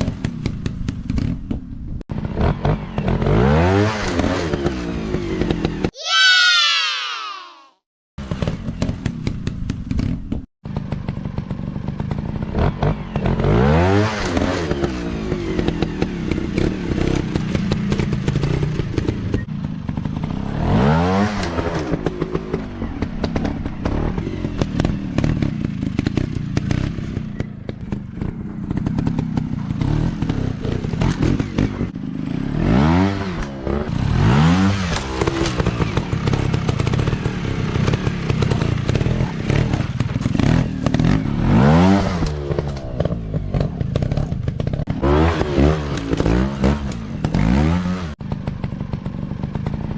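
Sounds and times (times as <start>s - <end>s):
dirt bike engine revving: 2.1s - 7.2s, 10.8s - 49.9s.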